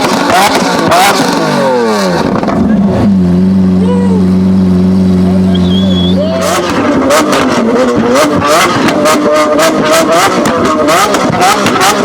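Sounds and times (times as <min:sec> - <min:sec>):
exhaust crackles and pops: 0:00.0 - 0:03.1, 0:04.6 - 0:12.0
sports car engine revving: 0:00.0 - 0:12.0.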